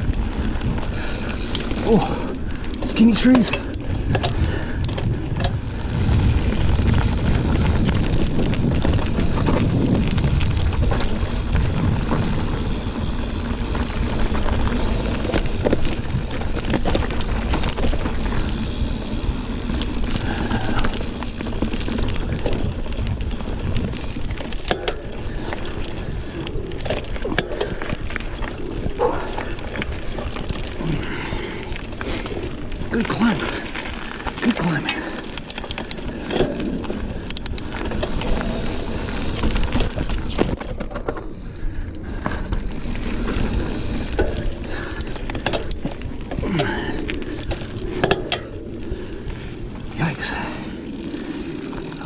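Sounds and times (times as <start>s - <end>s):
bike clicks and rattles: 0.0s - 52.0s
tyre and wind noise: 0.0s - 52.0s.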